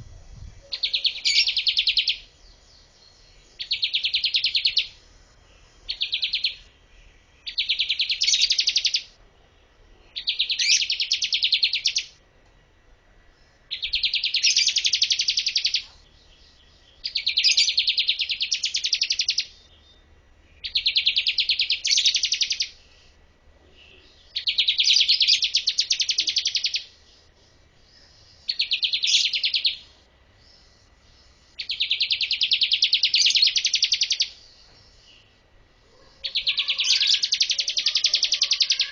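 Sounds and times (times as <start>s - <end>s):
bird singing high trill: 0.0s - 9.2s, 10.2s - 12.2s, 13.7s - 22.8s, 23.9s - 35.4s, 36.1s - 38.9s.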